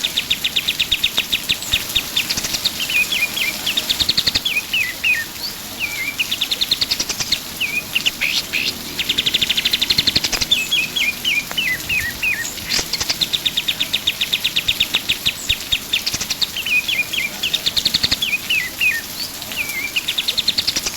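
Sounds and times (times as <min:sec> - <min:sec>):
bird singing trills: 0:00.0 - 0:20.9
steady hiss: 0:00.0 - 0:20.9.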